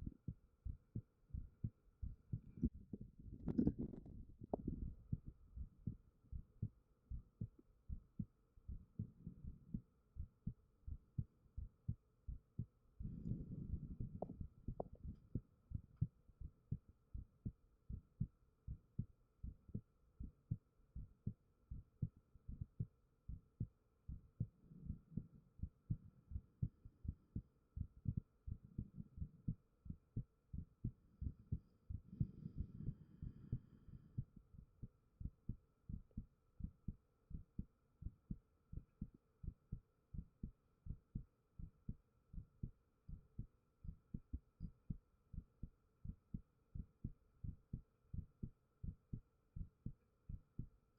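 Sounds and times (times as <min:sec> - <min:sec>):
heartbeat thumps: 0:00.0 - 0:50.7
faint steady hum: 0:00.0 - 0:50.9.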